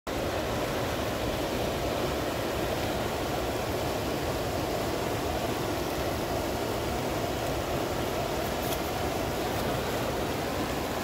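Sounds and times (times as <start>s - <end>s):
creek rushing over rocks: 0.1s - 11.0s.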